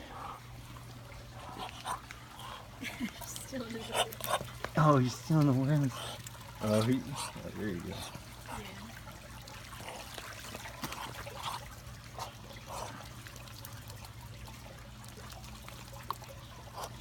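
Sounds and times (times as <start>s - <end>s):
birds pecking: 0.0s - 17.0s
soft watery dribbling: 0.0s - 17.0s.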